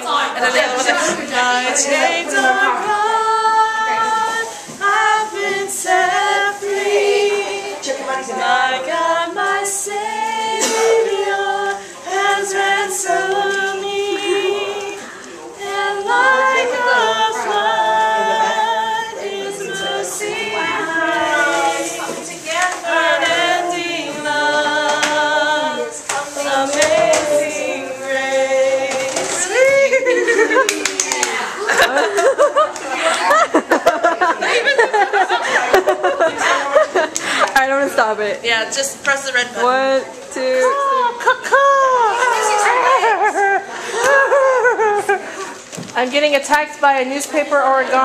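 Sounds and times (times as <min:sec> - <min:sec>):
young women singing together: 0:00.0 - 0:48.0.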